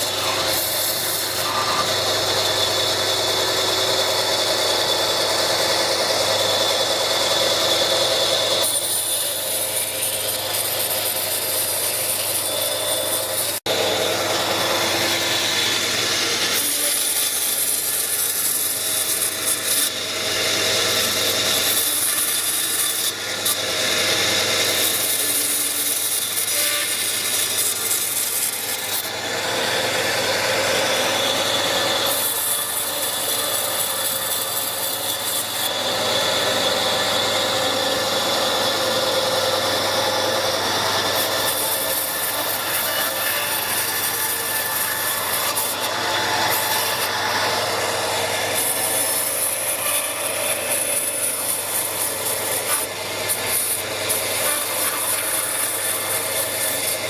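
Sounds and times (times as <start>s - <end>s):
tool rasping wood: 0.0s - 57.0s.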